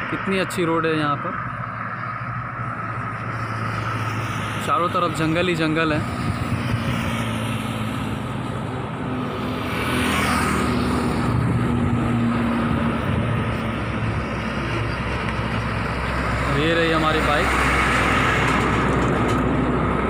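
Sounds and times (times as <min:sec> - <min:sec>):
highway traffic passing: 0:00.0 - 0:20.0
vehicle rushing past: 0:01.2 - 0:20.0.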